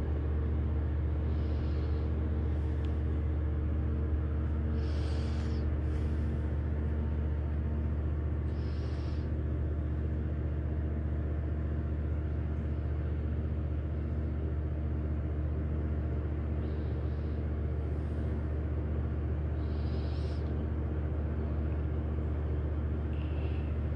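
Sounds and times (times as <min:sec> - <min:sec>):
low machine drone: 0:00.0 - 0:23.9.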